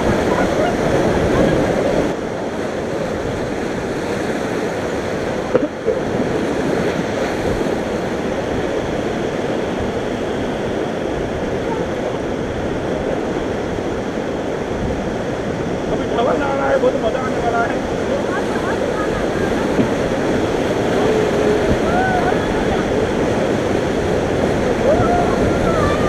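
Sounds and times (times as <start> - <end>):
river rapids rushing: 0.0 - 26.0.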